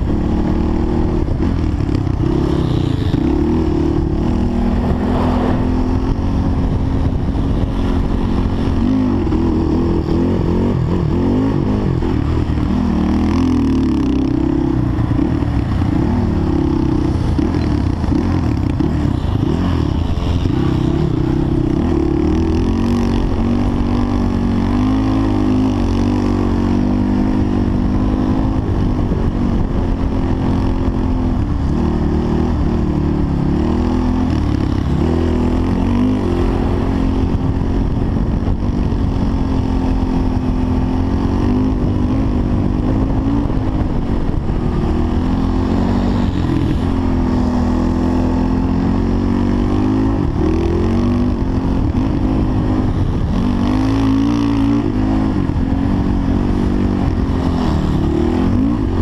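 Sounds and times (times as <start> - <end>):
heavy wind noise: 0.0 - 59.0
off-road vehicle engine: 0.0 - 59.0.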